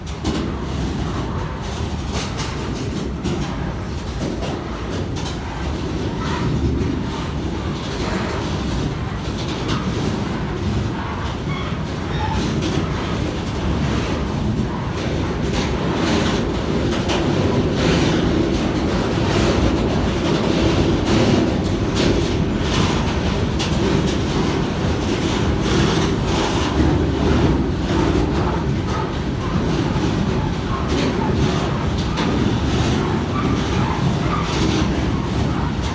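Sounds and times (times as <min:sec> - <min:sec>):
freight train rumbling: 0:00.0 - 0:35.9
wheels clacking over rail joints: 0:00.0 - 0:35.9.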